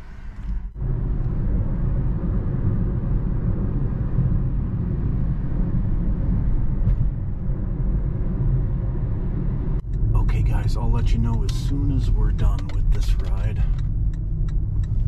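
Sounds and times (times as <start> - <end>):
road and tyre rumble in car: 0.0 - 15.0.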